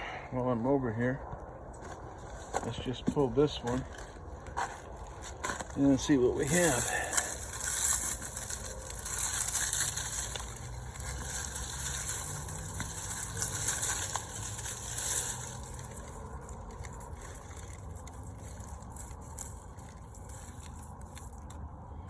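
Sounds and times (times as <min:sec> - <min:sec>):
steady low rumble: 0:00.0 - 0:22.0
plant rustling and crackling: 0:01.7 - 0:22.0.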